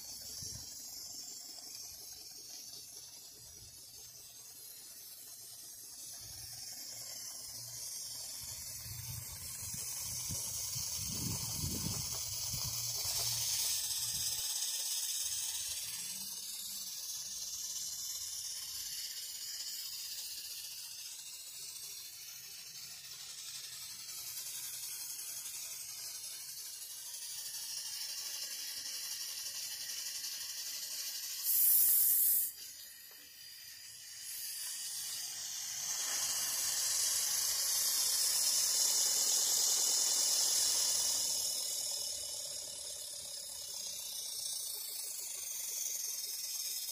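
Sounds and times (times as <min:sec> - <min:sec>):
steam engine hissing: 0:00.0 - 0:46.9.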